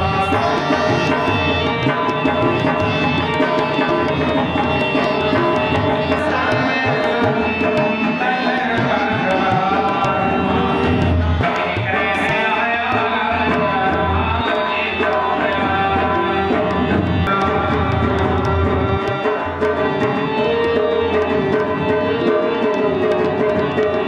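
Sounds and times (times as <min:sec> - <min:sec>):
tabla quick rhythm: 0:00.0 - 0:24.0.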